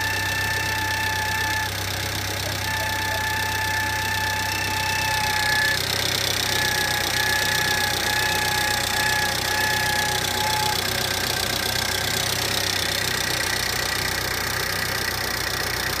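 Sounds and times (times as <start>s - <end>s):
pulsing high whine: 0.0s - 13.8s
car engine idling: 0.0s - 16.0s.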